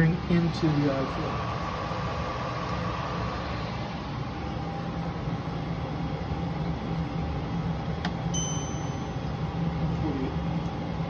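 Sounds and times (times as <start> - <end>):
boiler burner and blower humming: 0.0 - 11.0.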